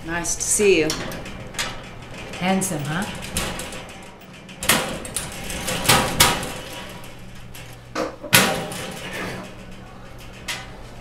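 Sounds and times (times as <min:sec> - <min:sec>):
metal locker latch clicks and clanks: 0:00.6 - 0:11.0.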